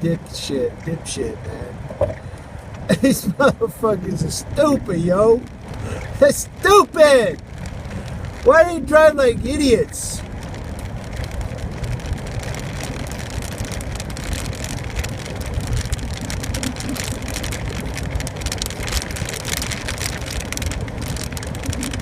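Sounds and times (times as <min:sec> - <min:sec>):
car engine and tyres rumbling: 0:00.0 - 0:22.0
rain pattering on car: 0:00.0 - 0:22.0.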